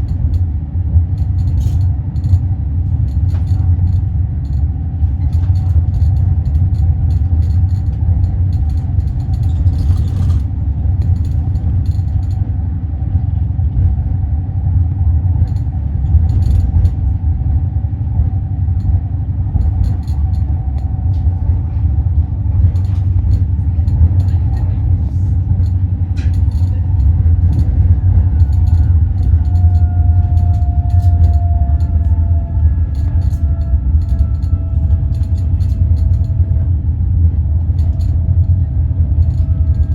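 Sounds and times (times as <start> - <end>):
train clicks: 0.0 - 14.0, 15.3 - 17.3, 18.0 - 39.9
electric train rumbling: 0.0 - 39.9
train whine: 0.0 - 39.9.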